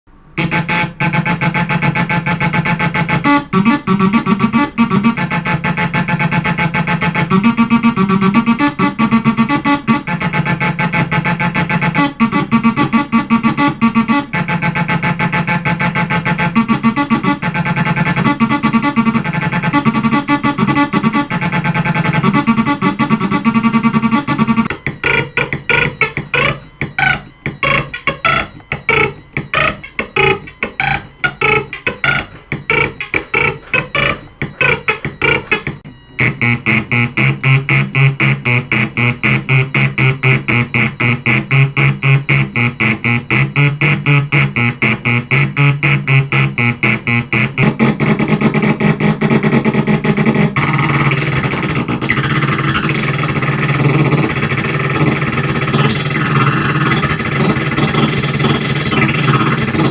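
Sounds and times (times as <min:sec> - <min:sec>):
electronic synthesizer sequence: 0:00.2 - 0:59.9.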